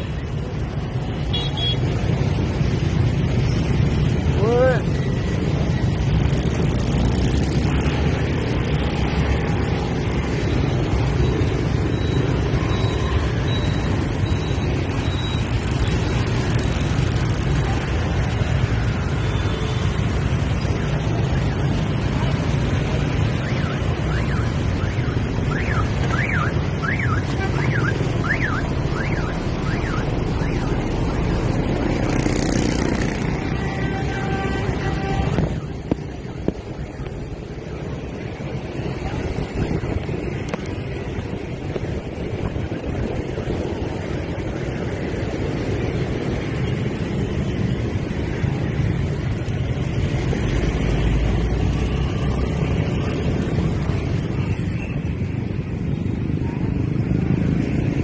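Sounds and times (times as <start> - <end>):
scooter and motorbike traffic: 0.0 - 58.0.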